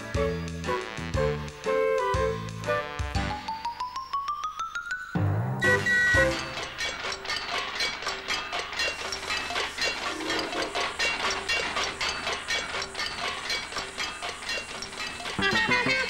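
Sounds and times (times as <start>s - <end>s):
cartoon steam train chugging: 0.0s - 4.0s, 5.6s - 16.0s.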